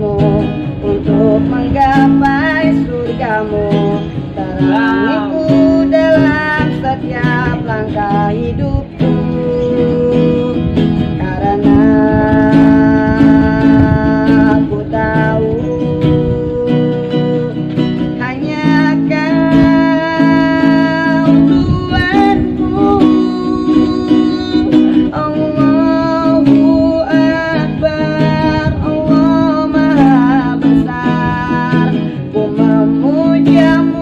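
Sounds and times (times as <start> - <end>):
acoustic guitar strumming: 0.0 - 34.0
man singing: 0.0 - 34.0.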